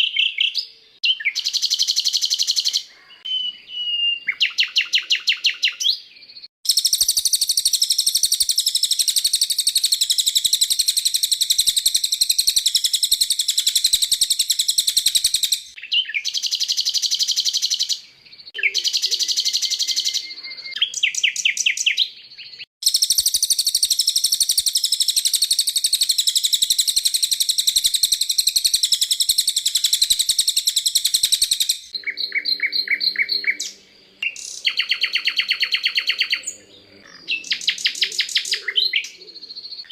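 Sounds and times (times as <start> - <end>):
songbird trilling: 0.0 - 6.0, 6.7 - 39.9.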